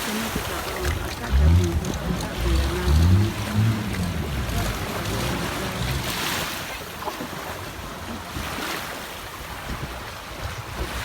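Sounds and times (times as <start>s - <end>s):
sea waves washing in: 0.0s - 9.1s.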